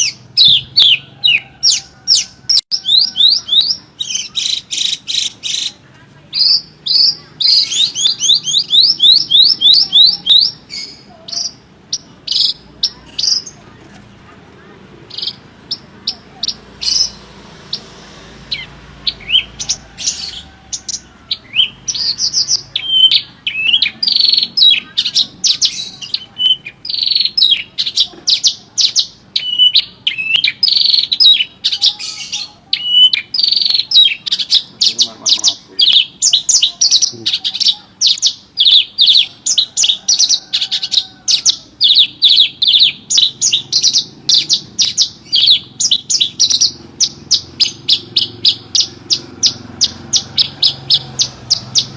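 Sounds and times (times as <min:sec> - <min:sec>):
bird singing high chirps and trills: 0:00.0 - 0:13.8, 0:15.1 - 0:51.9.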